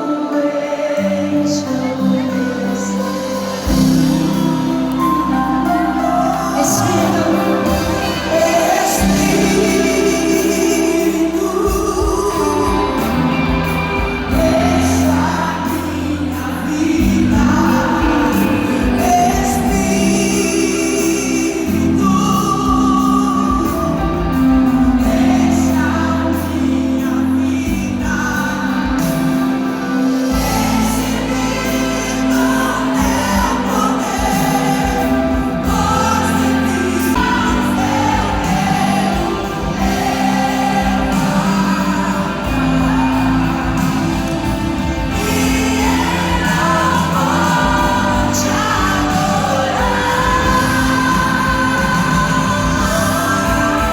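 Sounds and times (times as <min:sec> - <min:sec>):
band playing worship music: 0:00.0 - 0:53.9
people singing: 0:00.0 - 0:53.9.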